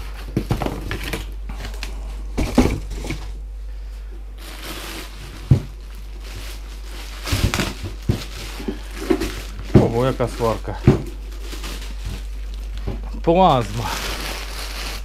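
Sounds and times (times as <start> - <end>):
plastic wrap rustling: 0.0 - 3.4, 4.3 - 15.0.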